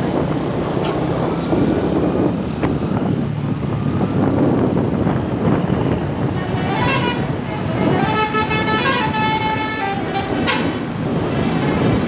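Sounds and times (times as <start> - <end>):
dense street traffic: 0.0 - 12.0
heavy vehicle engine running: 0.0 - 12.0.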